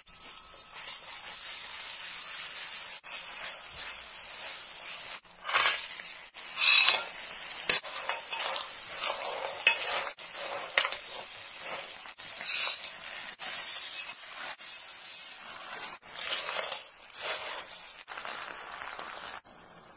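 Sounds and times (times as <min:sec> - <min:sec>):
spatula scraping wok: 0:00.0 - 0:19.4
oil sizzling: 0:00.0 - 0:19.9.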